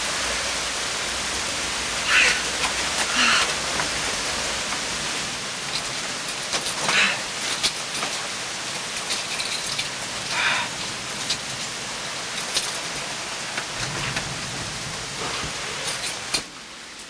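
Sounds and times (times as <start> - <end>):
rustle: 0.0 - 17.0
steady hiss: 0.0 - 17.0.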